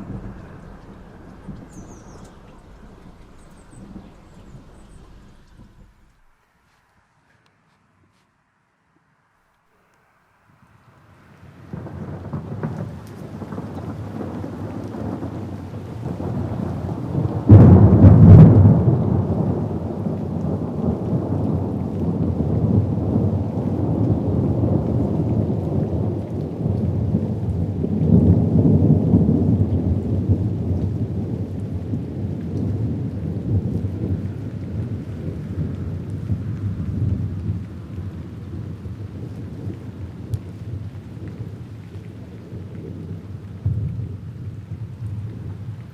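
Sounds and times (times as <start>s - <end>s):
thunder clap and rumble: 0.0s - 6.4s, 11.4s - 45.9s
steady rain: 0.0s - 7.5s, 9.4s - 45.9s.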